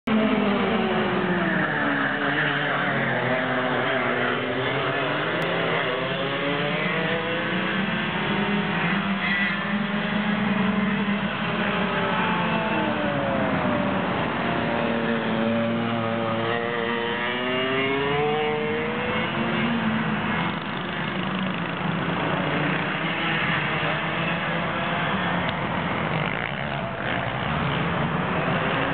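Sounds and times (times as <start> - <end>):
go-kart engines racing: 0.1 - 28.9.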